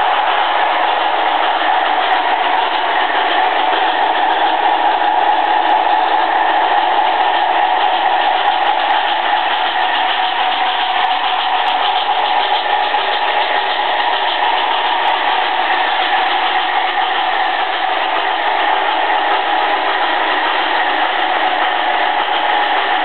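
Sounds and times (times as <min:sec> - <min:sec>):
model train motors whirring: 0:00.0 - 0:23.0
wheels rolling on track: 0:00.0 - 0:23.0.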